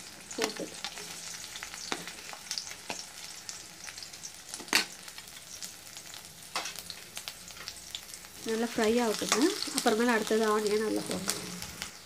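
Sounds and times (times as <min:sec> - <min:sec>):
food sizzling in hot oil: 0:00.0 - 0:12.0
sharp oil crackles: 0:00.0 - 0:12.0.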